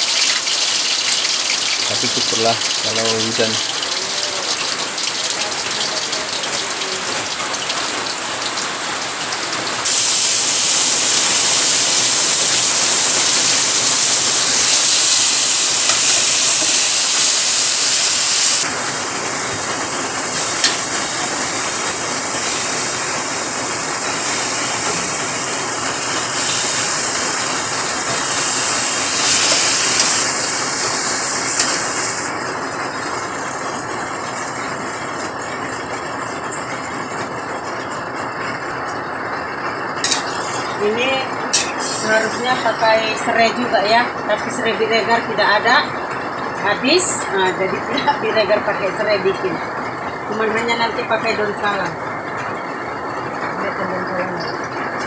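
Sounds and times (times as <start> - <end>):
spices sizzling in hot oil: 0.0 - 45.7
rain falling: 0.0 - 55.0.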